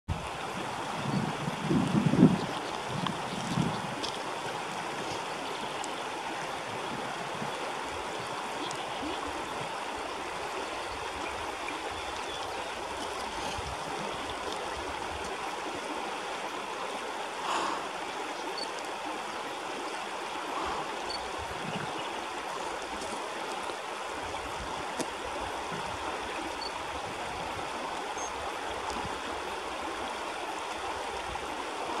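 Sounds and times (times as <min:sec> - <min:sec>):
river flowing over rocks: 0:00.1 - 0:32.0.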